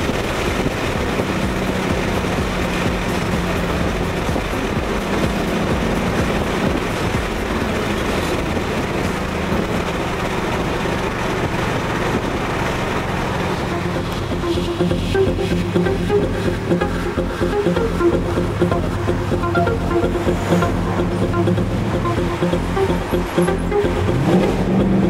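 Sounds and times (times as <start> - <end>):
car engine drone from inside cabin: 0.0 - 25.0
tyre and road noise: 0.0 - 25.0.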